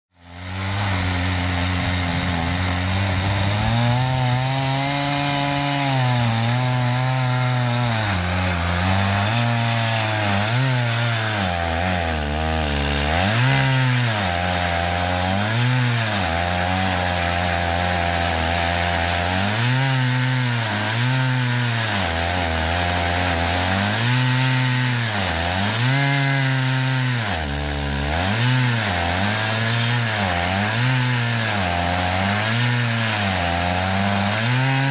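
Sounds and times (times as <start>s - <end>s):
chainsaw cutting log: 0.1s - 34.9s.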